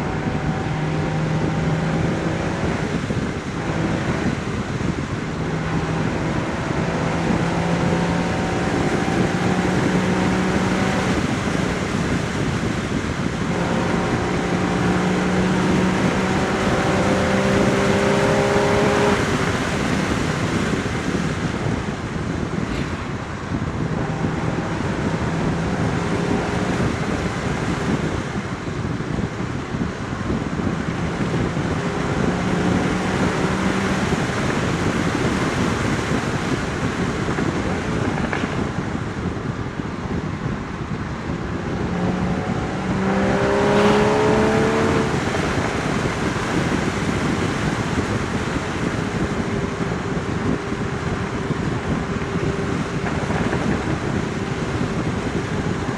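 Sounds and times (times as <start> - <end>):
sports car engine accelerating: 0.0 - 55.9
wind rush: 0.0 - 55.9.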